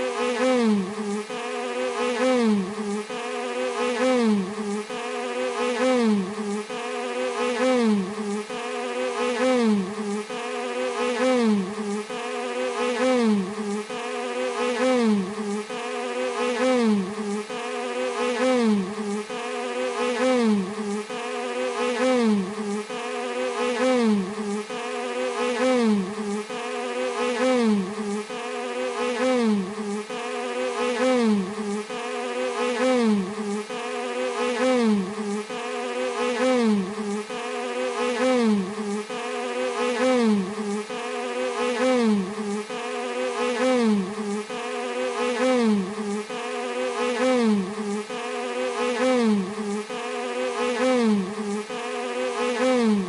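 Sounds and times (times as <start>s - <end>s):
bee buzzing: 0.0s - 53.0s.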